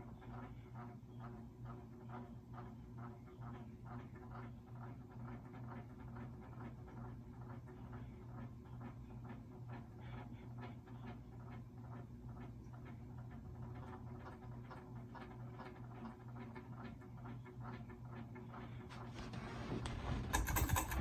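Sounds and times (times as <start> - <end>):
fan bearings ticking and clicking: 0.0 - 18.9, 19.9 - 21.0
fan motor hum: 0.0 - 21.0.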